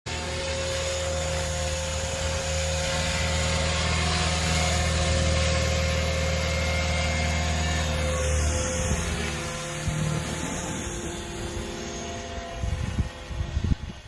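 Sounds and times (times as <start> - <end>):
radio-controlled helicopter running: 0.1 - 14.0.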